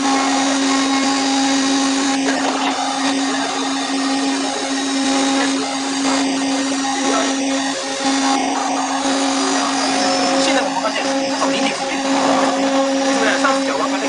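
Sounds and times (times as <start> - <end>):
milling machine humming: 0.0 - 14.0.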